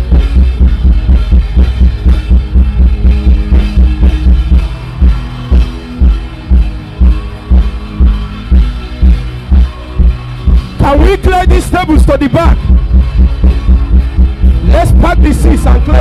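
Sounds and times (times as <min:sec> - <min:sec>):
heavy deep drum beat: 0:00.0 - 0:16.0
sustained pitched chords: 0:00.0 - 0:16.0.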